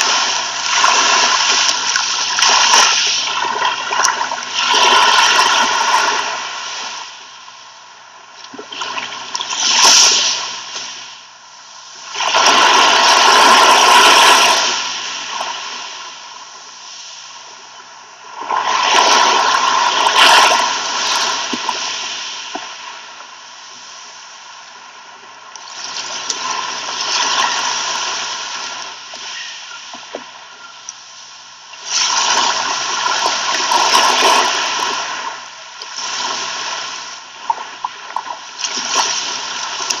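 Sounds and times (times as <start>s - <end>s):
sea waves breaking on shore: 0.0s - 40.0s.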